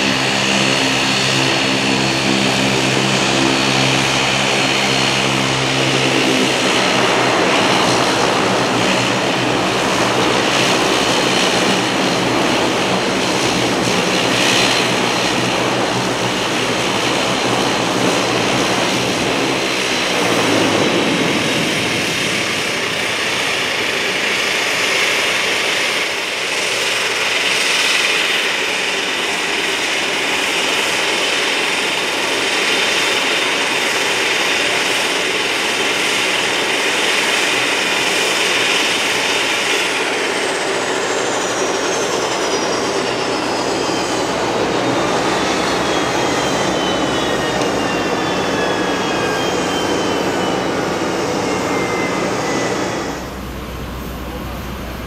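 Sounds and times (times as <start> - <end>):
high-pitched turbine whine: 0.0 - 55.0
propeller drone: 0.0 - 55.0.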